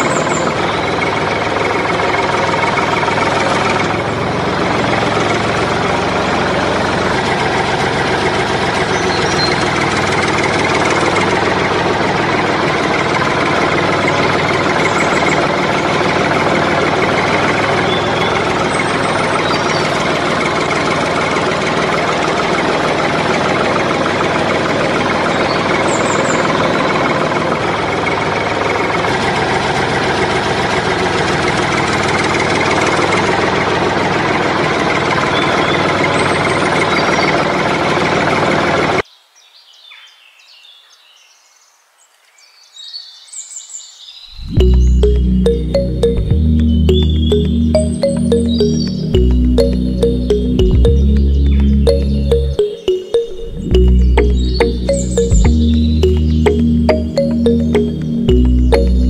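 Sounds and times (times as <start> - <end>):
tractor engine running: 0.0 - 39.0, 44.4 - 59.0.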